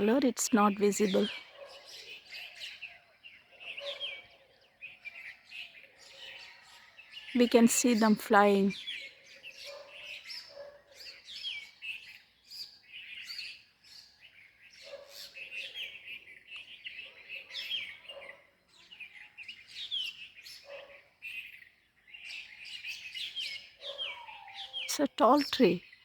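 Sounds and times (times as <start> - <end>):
flock of small birds chirping: 0.0 - 26.0.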